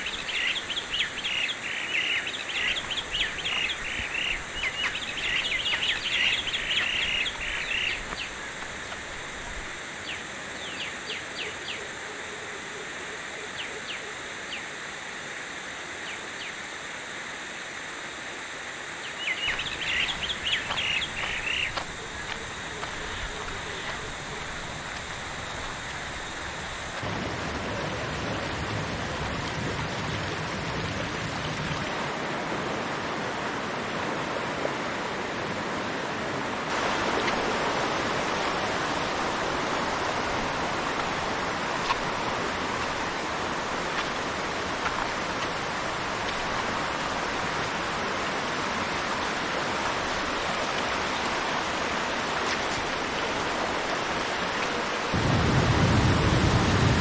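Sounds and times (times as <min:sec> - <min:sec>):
stream rushing over rapids: 0:00.0 - 0:11.7, 0:18.4 - 0:57.0.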